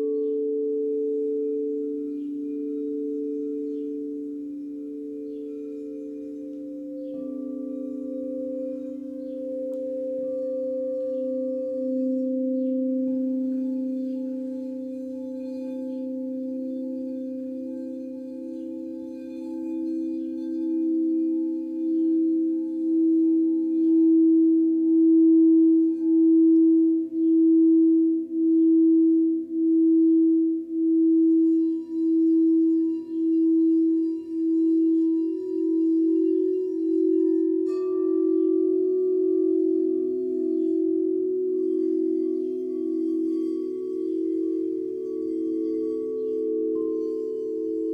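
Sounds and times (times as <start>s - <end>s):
higher-pitched bowl struck ringing: 0.0s - 47.9s
singing bowl low tone: 0.0s - 47.9s.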